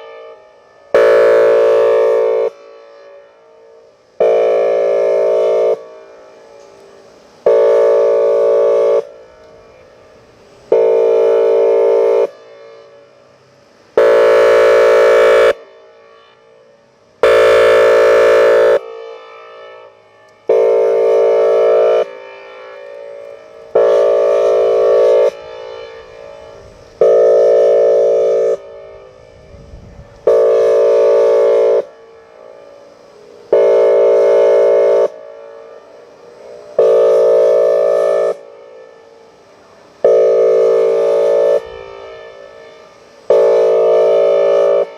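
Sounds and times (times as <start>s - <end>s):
warning siren horn blasts: 0.0s - 13.3s, 14.0s - 44.9s.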